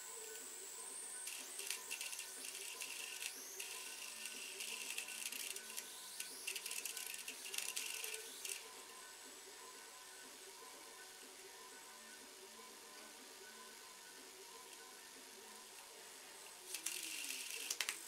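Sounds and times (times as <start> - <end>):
high-pitched whine: 0.0 - 17.6.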